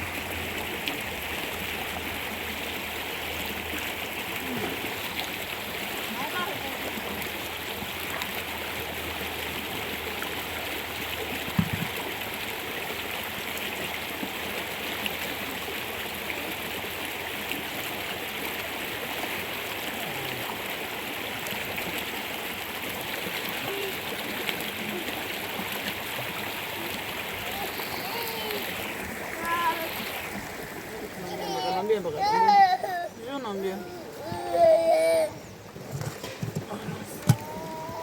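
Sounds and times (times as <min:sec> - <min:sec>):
water rushing: 0:00.0 - 0:38.0.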